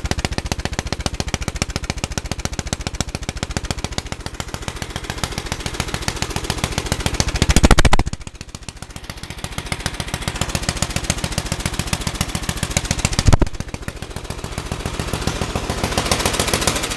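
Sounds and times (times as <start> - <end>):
lawn mower engine popping: 0.0 - 16.9.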